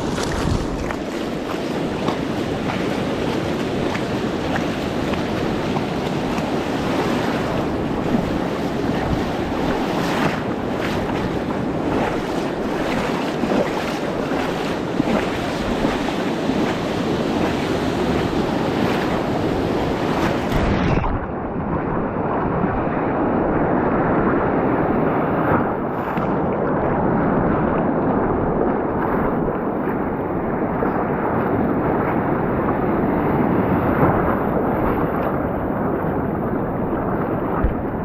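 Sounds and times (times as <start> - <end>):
rushing sea water: 0.0 - 38.0
wind buffeting microphone: 0.0 - 38.0.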